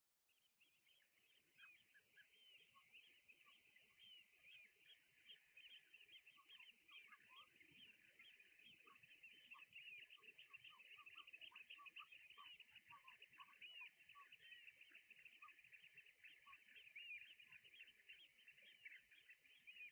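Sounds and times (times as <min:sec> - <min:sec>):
flock of birds chirping: 0:00.4 - 0:19.9.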